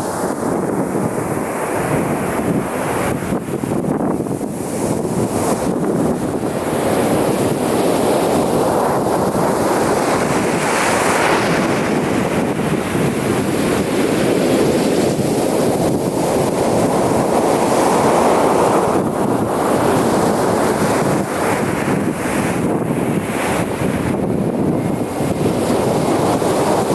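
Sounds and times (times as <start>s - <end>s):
ocean waves breaking: 0.0s - 26.9s
wind buffeting microphone: 0.0s - 26.9s.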